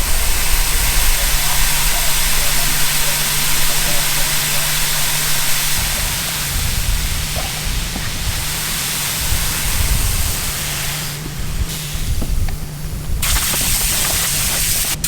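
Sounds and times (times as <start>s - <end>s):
grain pouring hiss: 0.0s - 15.0s
truck engine idling: 0.0s - 15.0s.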